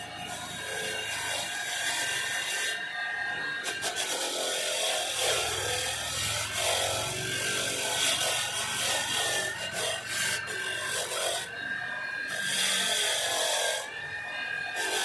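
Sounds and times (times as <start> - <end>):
rasping filing strokes: 0.0 - 2.9, 3.5 - 15.0.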